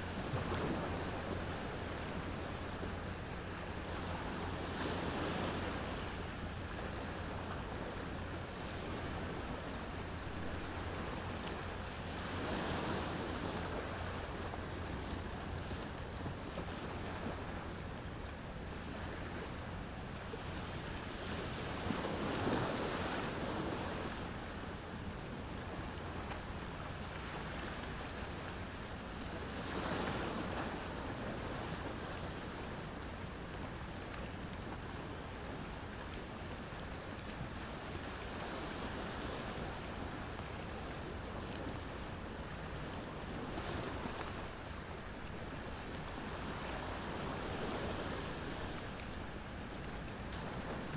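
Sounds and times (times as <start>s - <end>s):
ocean waves washing ashore: 0.0s - 50.9s.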